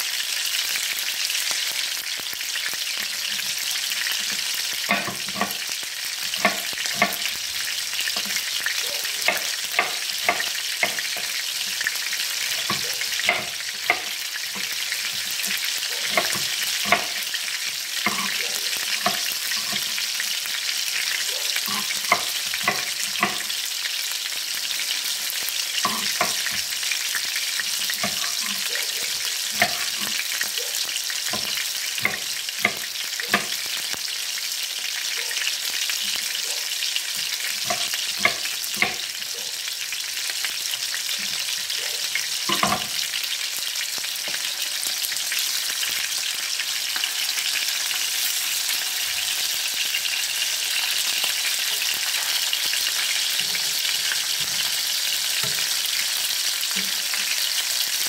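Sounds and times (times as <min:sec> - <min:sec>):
meatballs sizzling in oil: 0:00.0 - 0:58.0.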